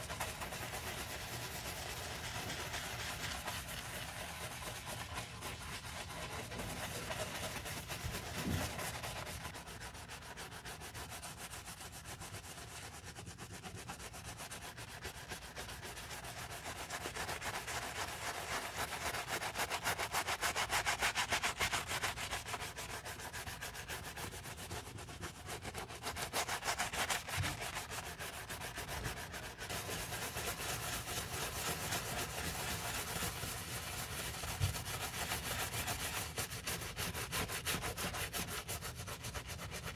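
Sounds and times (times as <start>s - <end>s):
brush scrubbing wet canvas: 0.0s - 39.9s.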